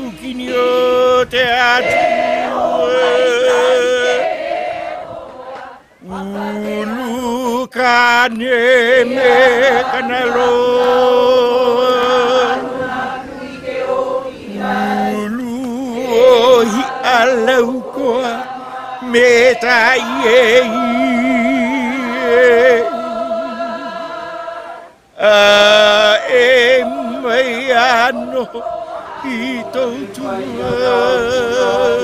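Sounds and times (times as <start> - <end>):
person chanting with vibrato: 0.0 - 7.8, 8.5 - 32.0.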